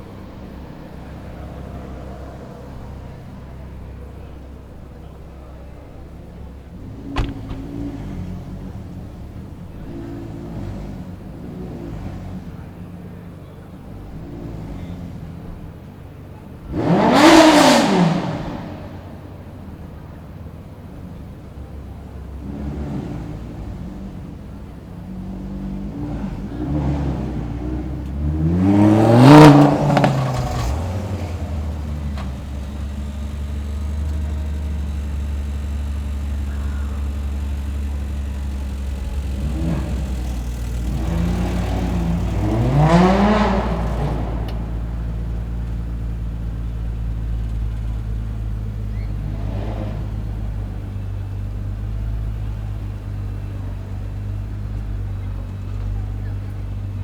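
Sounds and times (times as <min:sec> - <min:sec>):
car engines idling: 0:00.0 - 0:57.0
car engines revving: 0:00.0 - 0:57.0.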